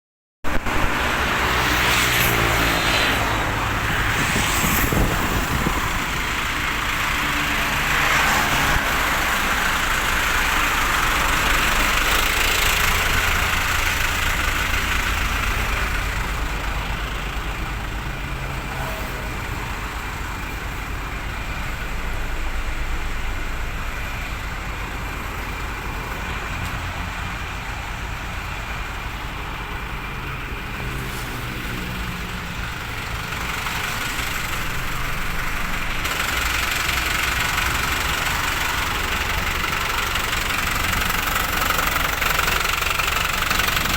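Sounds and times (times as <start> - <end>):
diesel truck engine running: 0.4 - 43.9.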